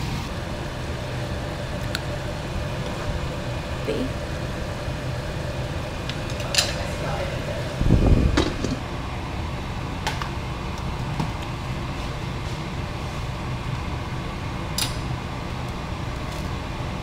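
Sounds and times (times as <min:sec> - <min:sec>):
low fan-like hum: 0:00.0 - 0:17.0.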